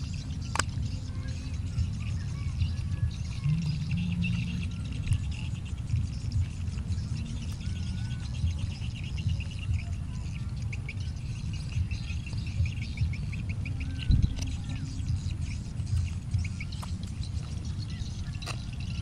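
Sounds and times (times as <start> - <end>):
rapid high chirping: 0.0 - 19.0
steady low rumble: 0.0 - 19.0.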